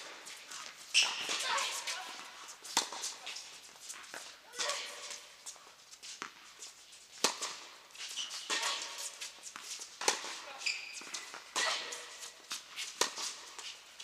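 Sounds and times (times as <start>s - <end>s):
tennis balls struck with racquets: 0.0s - 6.6s, 7.2s - 14.0s
players' shoes scuffing on court: 0.0s - 14.0s.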